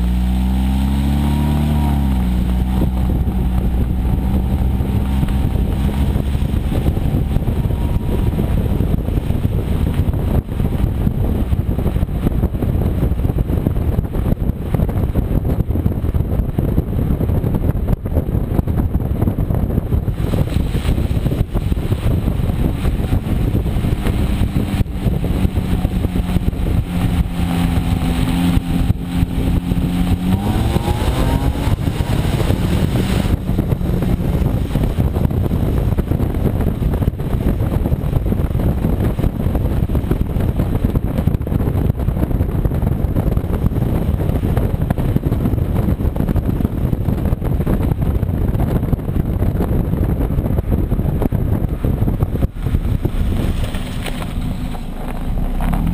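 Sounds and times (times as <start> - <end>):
car exhaust accelerating: 0.0 - 55.9
wind on microphone: 0.0 - 55.9.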